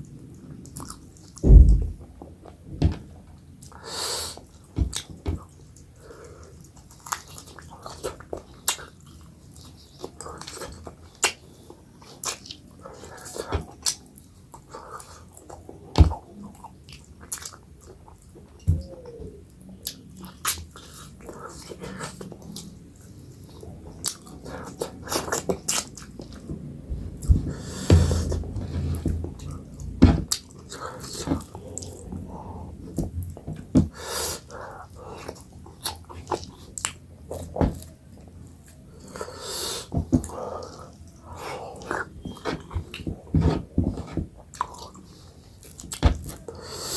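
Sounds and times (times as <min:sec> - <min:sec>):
close chewing and mouth sounds: 0:00.0 - 0:01.4, 0:03.2 - 0:46.9.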